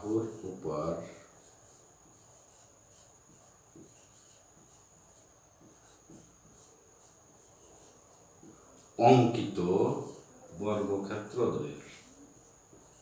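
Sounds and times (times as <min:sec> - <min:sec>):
marker writing on whiteboard: 0:00.0 - 0:13.0.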